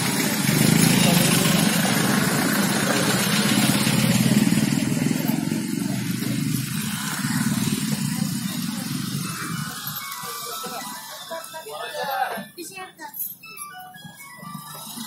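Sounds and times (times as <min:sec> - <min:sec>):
bus engine running: 0:00.0 - 0:12.5, 0:13.8 - 0:15.0.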